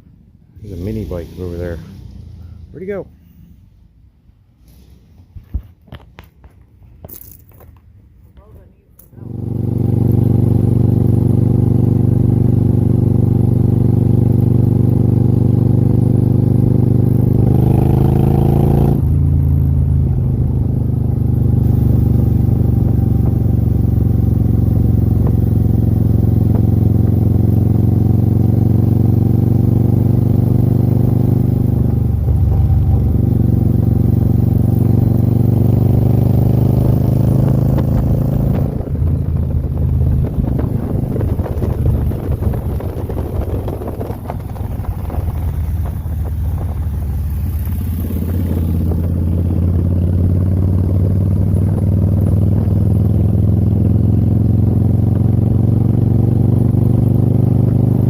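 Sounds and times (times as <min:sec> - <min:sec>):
motorcycle engine running: 0:09.2 - 0:58.0.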